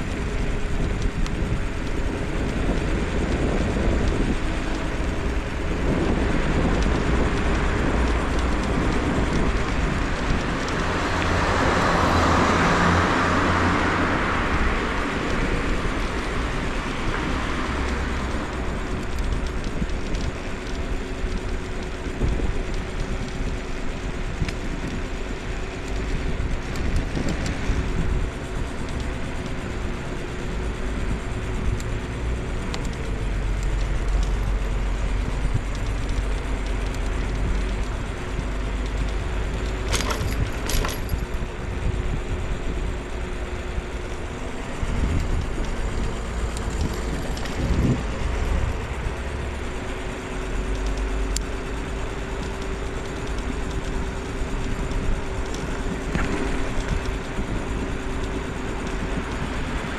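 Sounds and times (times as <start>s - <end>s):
scooter wheels rumbling on road: 0.0s - 59.9s
thin steady whine: 0.0s - 59.9s
wind: 0.0s - 59.9s.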